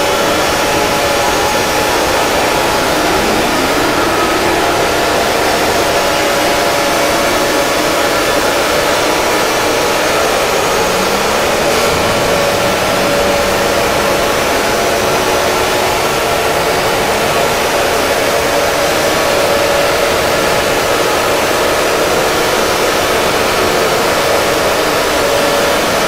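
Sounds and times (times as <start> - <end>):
steady alarm tones: 0.0 - 24.5.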